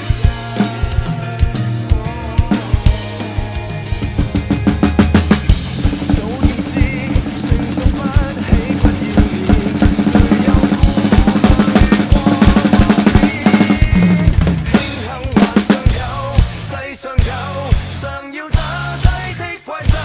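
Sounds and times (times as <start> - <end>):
backing track bass and melody: 0.0 - 20.0
drum kit playing groove: 0.0 - 20.0.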